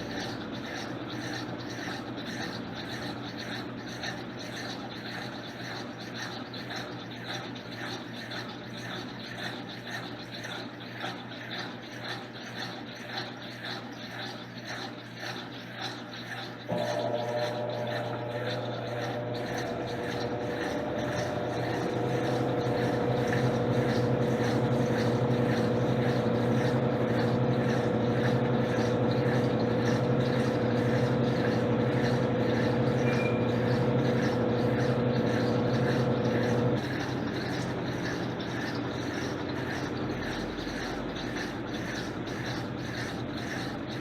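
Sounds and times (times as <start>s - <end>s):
quiet whir: 0.0s - 44.0s
washing machine motor hum: 0.0s - 44.0s.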